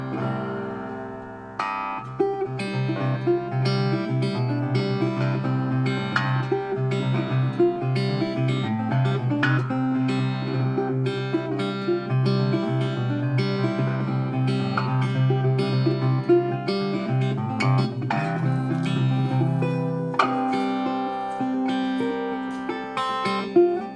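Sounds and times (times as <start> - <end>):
acoustic guitar music: 0.0 - 23.9.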